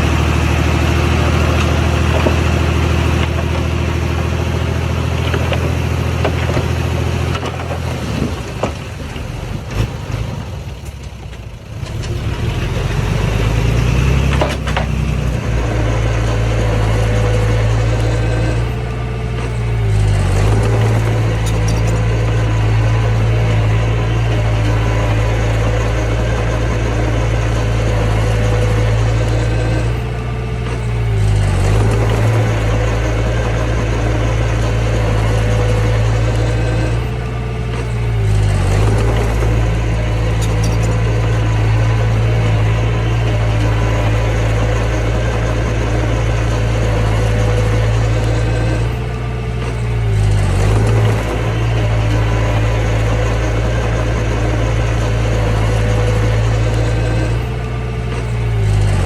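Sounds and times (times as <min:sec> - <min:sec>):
earthmoving machine diesel engine: 0:00.0 - 0:59.0.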